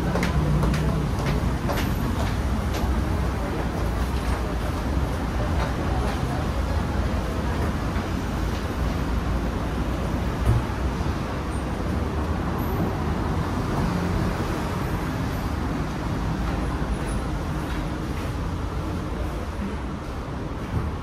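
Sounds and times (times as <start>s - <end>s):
city road traffic: 0.0s - 21.0s.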